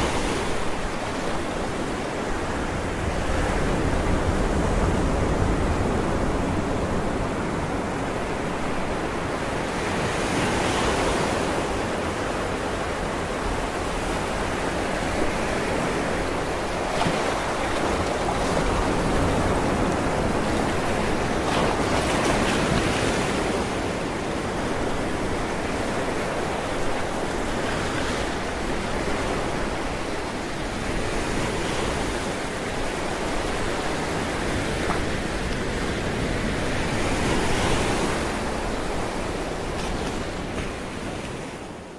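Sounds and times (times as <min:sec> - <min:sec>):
sea waves washing on shore: 0:00.0 - 0:41.9.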